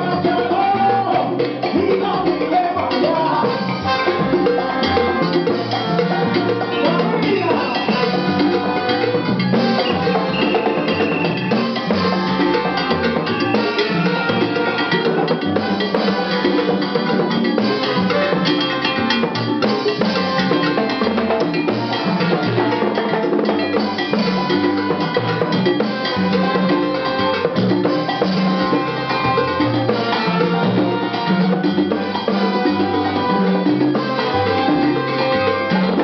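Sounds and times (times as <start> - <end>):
congas: 0.0 - 36.0
live salsa band playing: 0.0 - 36.0.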